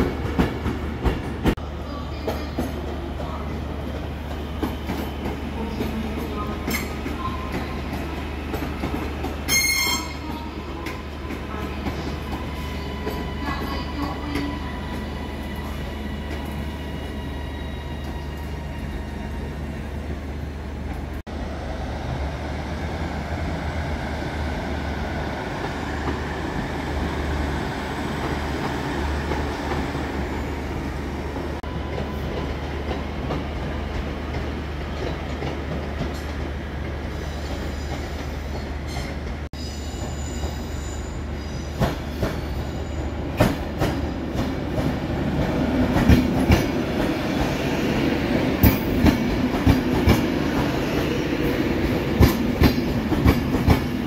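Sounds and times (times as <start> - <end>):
trains rumbling on rails: 0.0 - 54.0.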